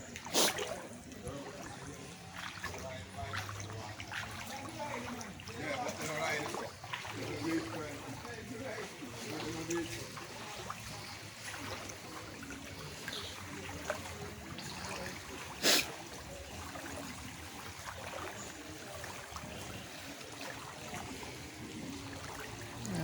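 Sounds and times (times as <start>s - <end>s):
floodwater running and trickling: 0.0s - 23.0s.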